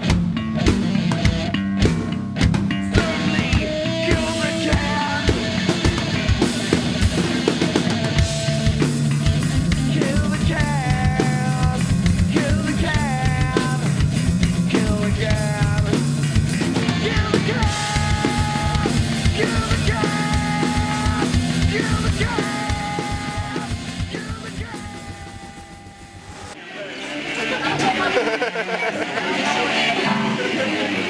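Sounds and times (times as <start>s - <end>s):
drum kit beats: 0.0s - 26.6s
distorted electric guitar: 0.0s - 31.0s.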